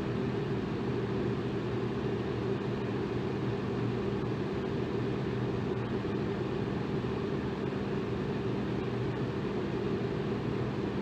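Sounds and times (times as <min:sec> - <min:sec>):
electric fan whooshing: 0:00.0 - 0:11.0
fan motor hum: 0:00.0 - 0:11.0.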